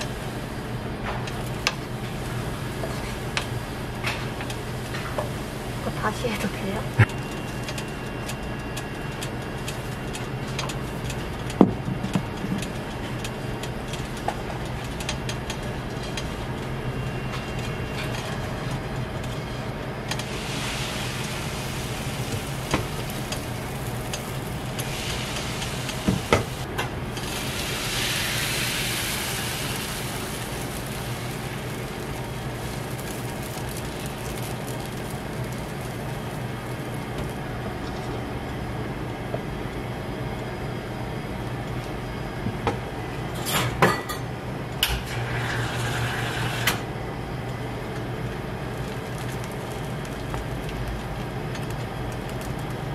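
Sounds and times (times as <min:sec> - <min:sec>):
batter sizzling on griddle: 0:00.0 - 0:39.2, 0:44.8 - 0:52.9
steady low hum: 0:00.0 - 0:52.9.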